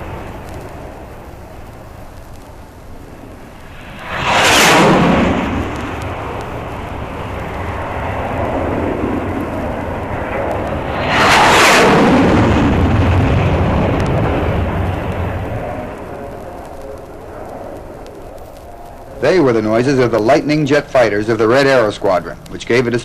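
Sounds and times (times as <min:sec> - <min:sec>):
low rumble: 0:00.0 - 0:22.6
jet fighters passing low: 0:00.0 - 0:23.0.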